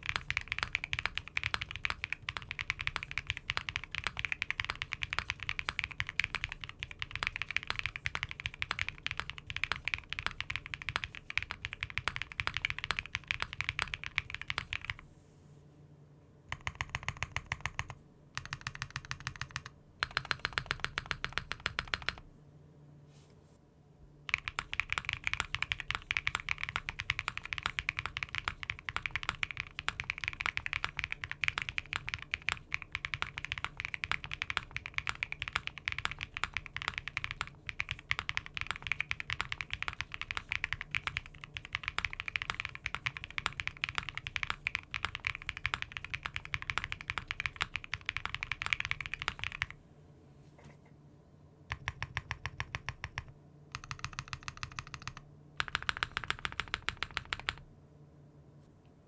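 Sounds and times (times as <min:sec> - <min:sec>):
fast typing on mechanical keyboard: 0:00.0 - 0:15.0, 0:16.5 - 0:22.3, 0:24.3 - 0:49.8, 0:51.7 - 0:57.7.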